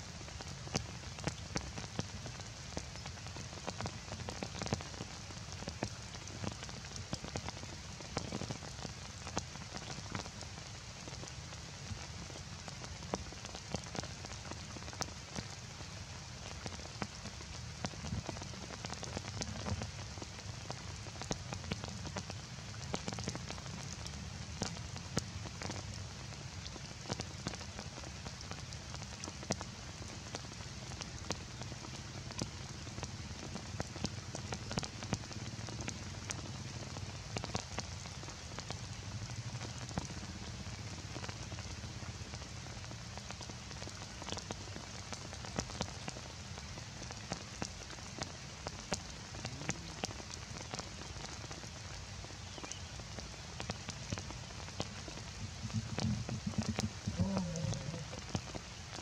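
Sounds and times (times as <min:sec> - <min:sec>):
heavy rain: 0:00.0 - 0:59.0
raindrops spattering on surfaces: 0:00.0 - 0:59.0.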